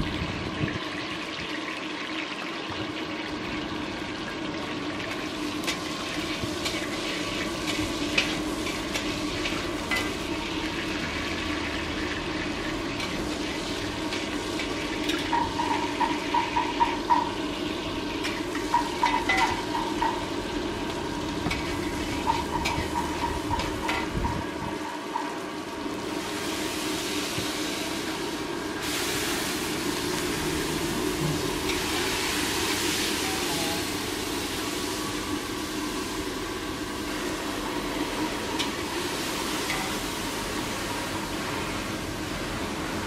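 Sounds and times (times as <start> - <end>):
food sizzling in oil: 0.0 - 43.0.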